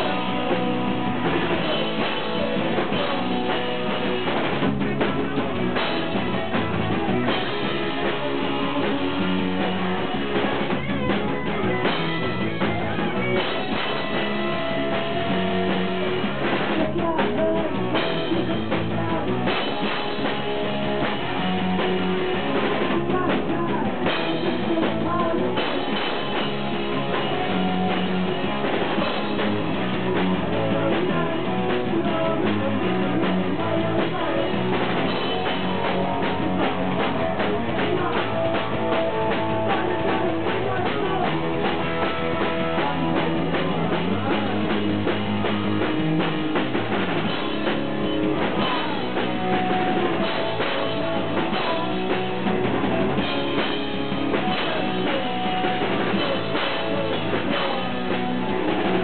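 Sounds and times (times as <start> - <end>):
person singing into a microphone: 0.0 - 45.6, 47.0 - 59.0
drum kit: 0.0 - 59.0
electric guitar: 0.0 - 59.0.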